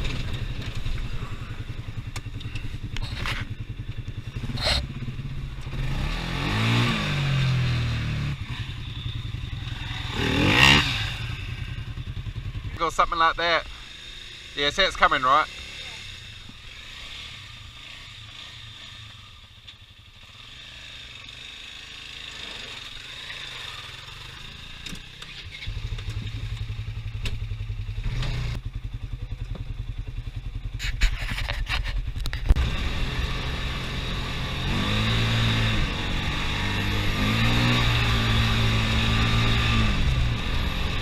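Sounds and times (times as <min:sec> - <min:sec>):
off-road vehicle engine revving: 0:00.0 - 0:29.7, 0:30.4 - 0:41.0.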